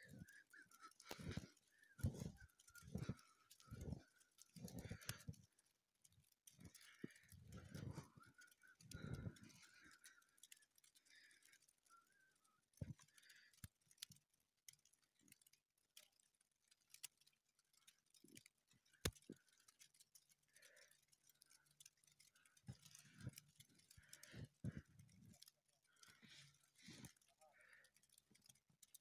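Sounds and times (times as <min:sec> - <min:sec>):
faint clicks: 0:00.0 - 0:29.0.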